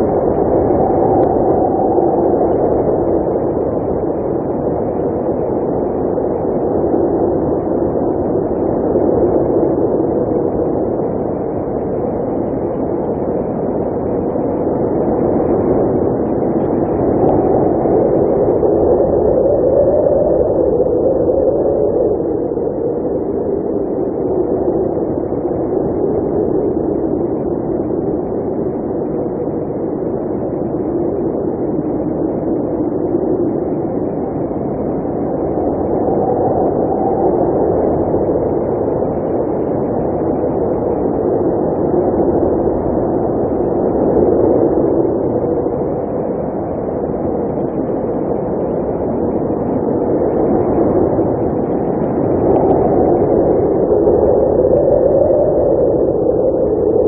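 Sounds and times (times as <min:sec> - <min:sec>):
blizzard wind howling: 0:00.0 - 0:57.0.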